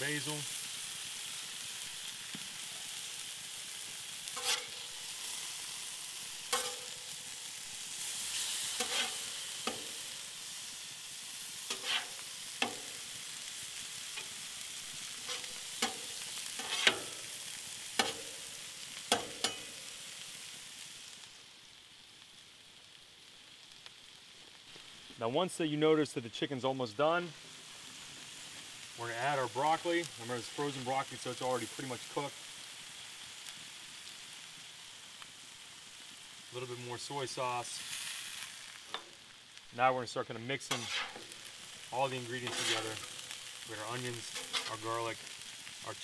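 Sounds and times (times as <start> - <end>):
chicken sizzling on a griddle: 0.0 - 46.0.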